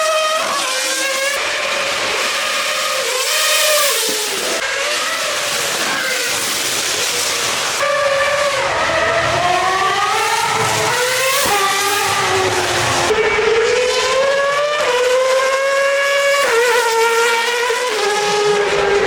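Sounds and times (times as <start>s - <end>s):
racing car engine at high revs: 0.0s - 19.0s.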